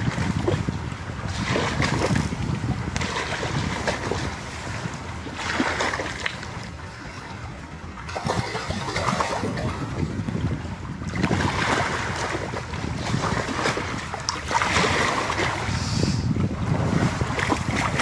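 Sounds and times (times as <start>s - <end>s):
water splashing and lapping: 0.0s - 18.0s
wind buffeting microphone: 0.0s - 18.0s.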